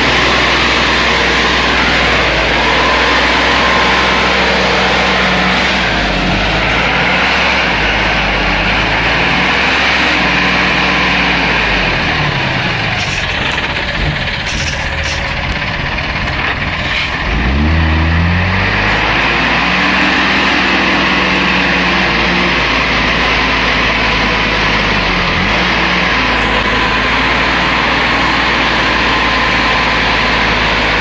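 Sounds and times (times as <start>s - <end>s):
truck diesel engine under load: 0.0s - 31.0s.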